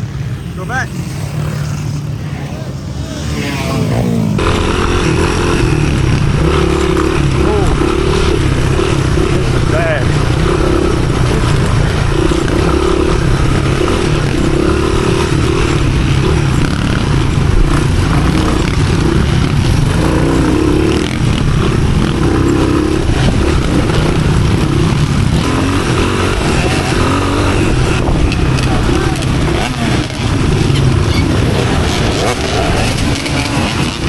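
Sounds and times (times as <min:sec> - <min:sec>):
off-road motorcycle engine revving: 0:00.0 - 0:34.0.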